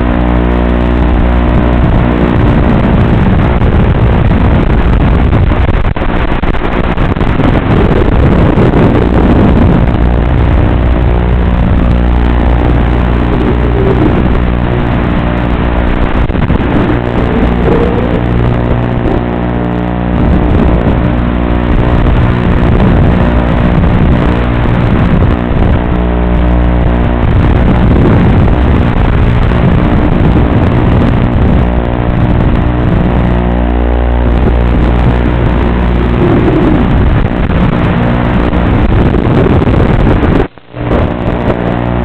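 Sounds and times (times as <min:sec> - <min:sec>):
drone motors and propellers buzzing: 0:00.0 - 0:42.0.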